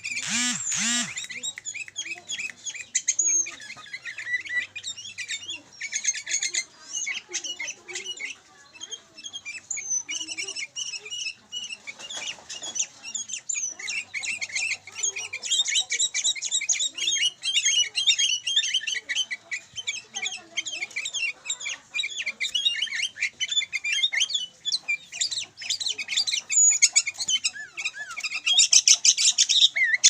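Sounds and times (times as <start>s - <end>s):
bulbuls chattering calls: 0.0s - 30.0s.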